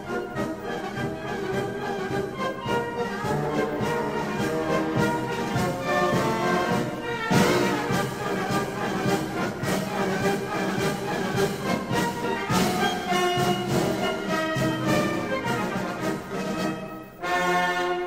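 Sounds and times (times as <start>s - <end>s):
brass instrumental music: 0.0s - 18.0s.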